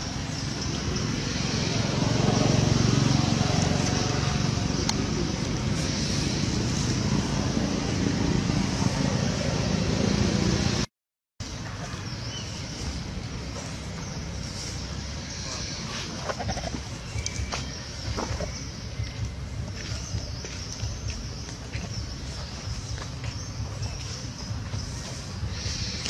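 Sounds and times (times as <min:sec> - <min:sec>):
outdoor background rumble: 0:00.0 - 0:26.0.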